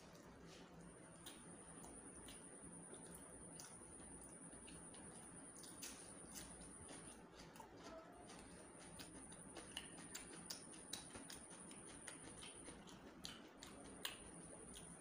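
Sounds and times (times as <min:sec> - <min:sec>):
faint high-pitched whine: 0:00.0 - 0:15.0
chewing mouth sounds: 0:01.1 - 0:15.0.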